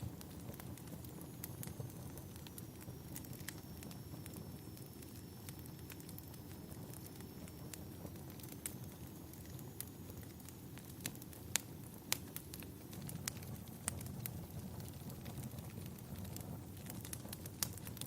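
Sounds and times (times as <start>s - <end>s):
sharp pops of fire: 0.0s - 18.0s
wood fire crackling: 0.0s - 18.0s.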